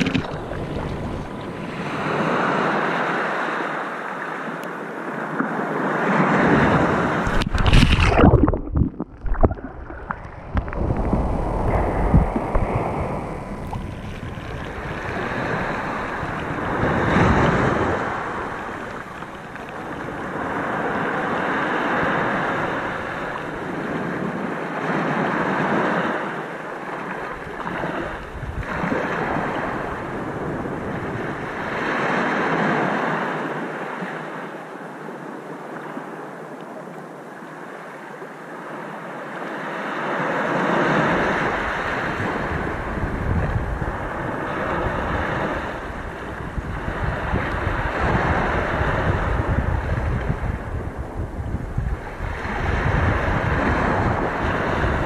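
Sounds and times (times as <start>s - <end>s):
ocean waves breaking: 0.0s - 36.4s, 37.4s - 55.0s.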